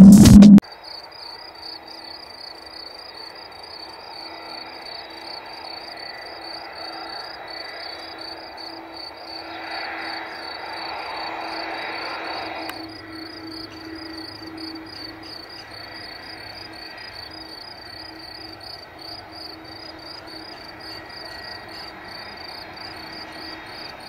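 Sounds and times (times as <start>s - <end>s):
distant jet engines rushing: 0.0s - 0.6s, 3.4s - 24.0s
insects chirping: 0.6s - 24.0s.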